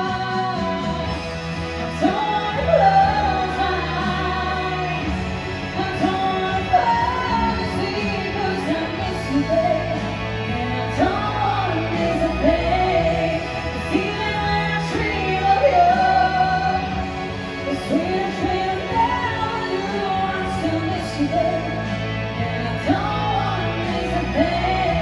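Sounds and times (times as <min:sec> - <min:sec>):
low bass: 0:00.0 - 0:25.0
person singing live: 0:00.0 - 0:25.0.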